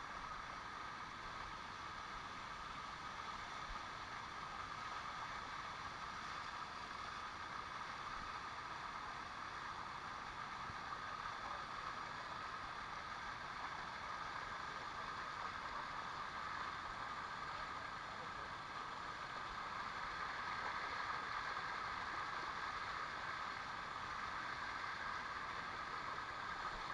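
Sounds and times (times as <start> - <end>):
water rushing down rocks: 0.2 - 26.9.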